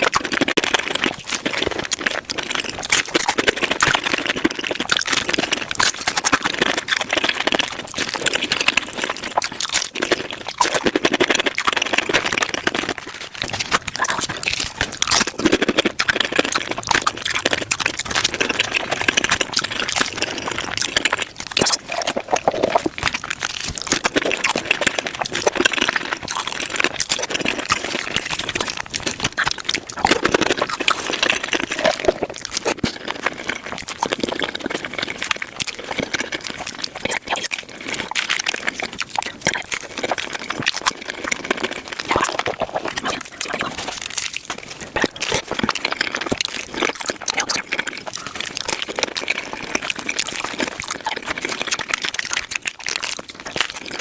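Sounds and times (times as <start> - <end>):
sped-up crunching and chewing: 0.0 - 54.0.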